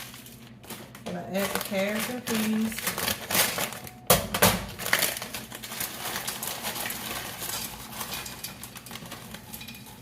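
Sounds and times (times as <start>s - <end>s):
frozen vegetables rattling into dish: 0.0s - 4.0s, 4.6s - 10.0s.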